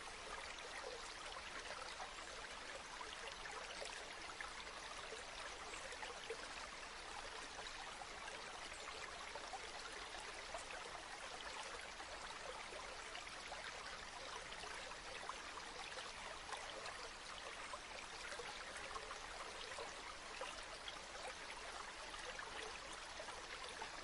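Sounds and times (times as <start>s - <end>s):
river water babbling: 0.0s - 24.0s.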